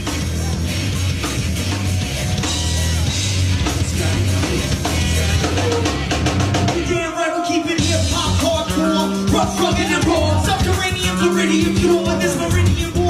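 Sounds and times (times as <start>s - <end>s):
drum kit: 0.0s - 13.0s
heavy bass line: 0.0s - 13.0s.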